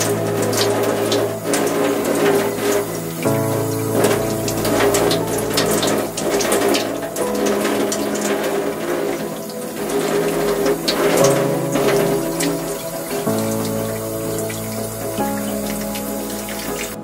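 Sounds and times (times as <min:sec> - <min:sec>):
background music with chords: 0:00.0 - 0:17.0
water pouring onto plant: 0:00.0 - 0:17.0.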